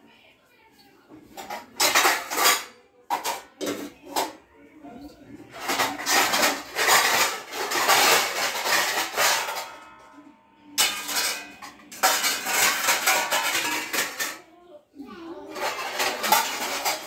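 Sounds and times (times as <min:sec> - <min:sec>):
metal pots and plates clattering: 0:01.2 - 0:04.4, 0:05.4 - 0:14.5, 0:15.1 - 0:17.0.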